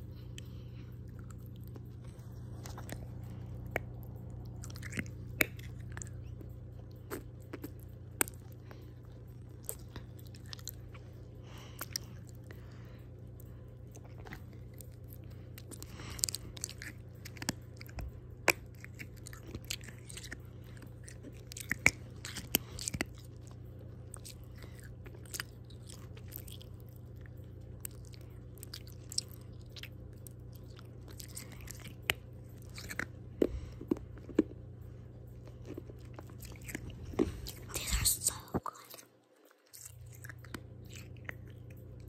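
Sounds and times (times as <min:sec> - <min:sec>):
chewing and crunching candy: 0:00.0 - 0:42.0
steady low hum: 0:00.0 - 0:42.0.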